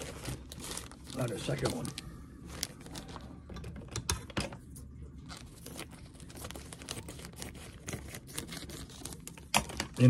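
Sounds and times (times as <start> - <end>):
plastic wrapping crinkling and tearing: 0.0 - 3.8, 5.2 - 10.0.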